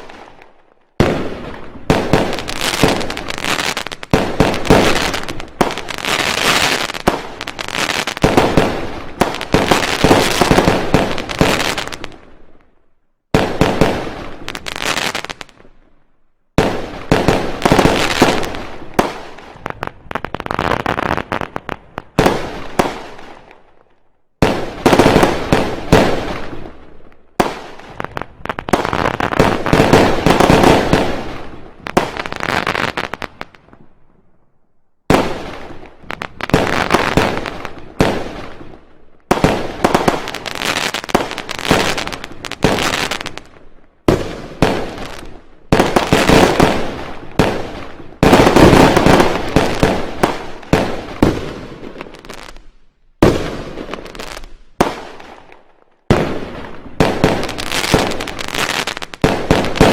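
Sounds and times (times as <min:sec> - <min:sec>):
fireworks and firecrackers banging: 0:00.0 - 0:34.2, 0:35.1 - 0:59.9.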